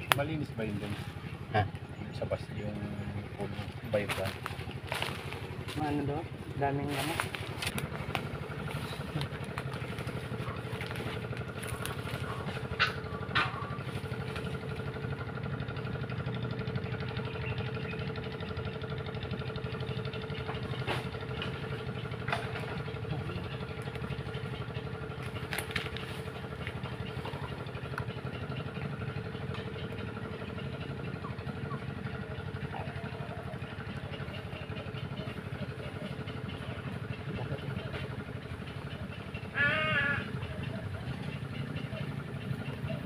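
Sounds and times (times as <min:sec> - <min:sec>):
small motor humming: 0:00.0 - 0:43.0.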